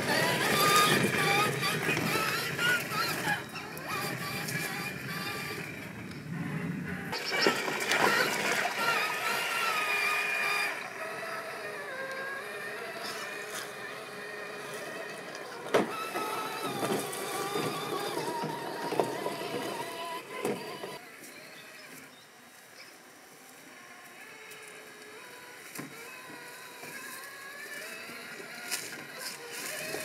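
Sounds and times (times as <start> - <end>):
electric motor whining: 0.0 - 30.0.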